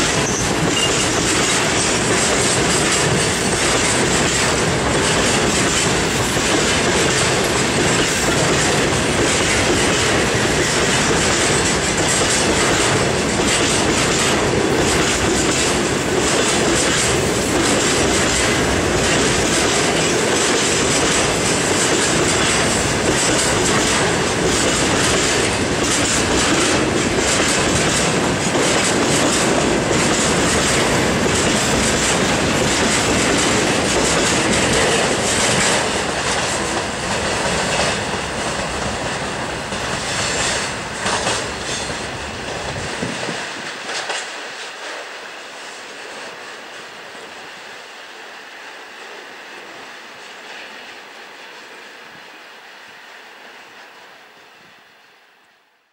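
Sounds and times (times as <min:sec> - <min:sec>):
train wheels clattering over rail joints: 0:00.0 - 0:45.1.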